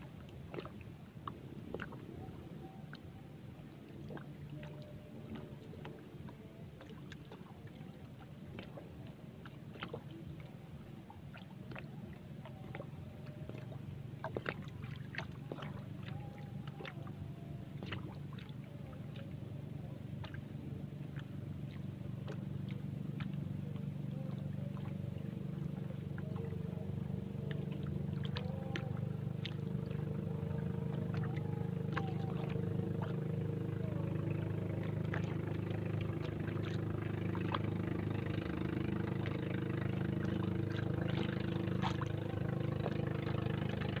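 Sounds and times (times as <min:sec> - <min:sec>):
boat engine drone: 0:00.0 - 0:44.0.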